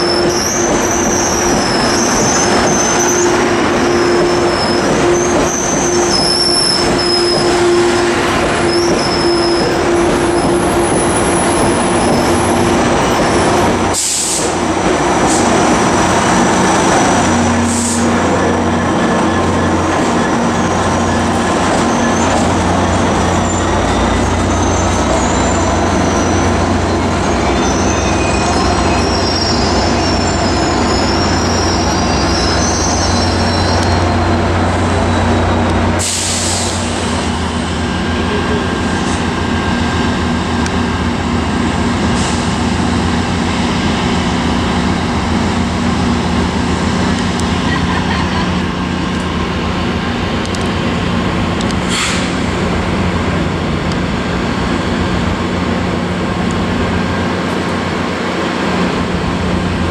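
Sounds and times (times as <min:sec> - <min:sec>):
diesel locomotive engine droning: 0:00.0 - 0:59.9
diesel locomotives rumbling: 0:00.0 - 0:59.9
train rolling on steel wheels: 0:00.0 - 0:59.9.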